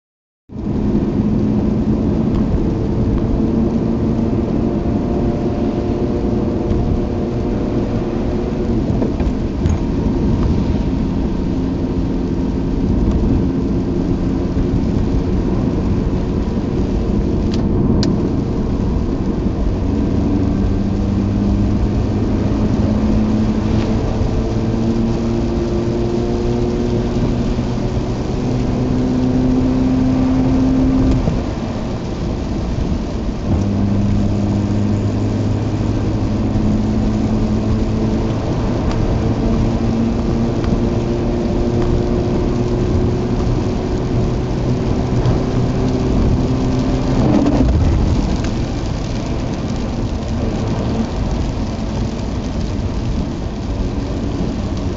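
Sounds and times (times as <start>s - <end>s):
car engine running: 0.5s - 54.9s
rain and road rumble: 0.5s - 54.9s.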